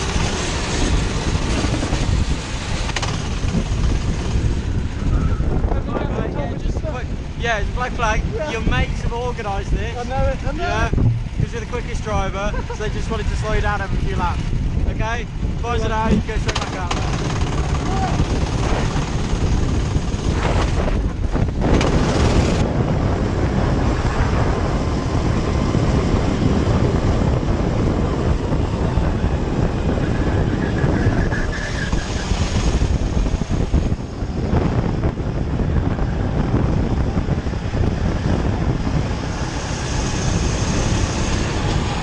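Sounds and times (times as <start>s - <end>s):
go-kart engine running: 0.0s - 42.0s
wind rushing over camera: 0.0s - 42.0s.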